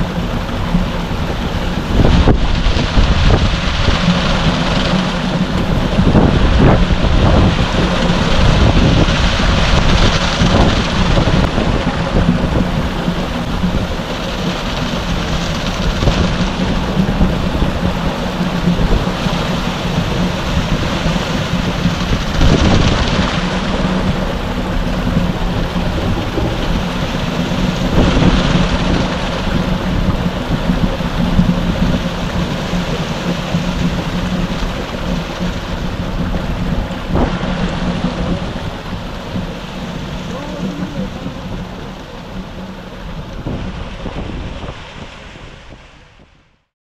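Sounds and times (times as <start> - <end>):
concrete mixer engine humming: 0.0 - 45.8
wet concrete rushing down chute: 0.0 - 45.9.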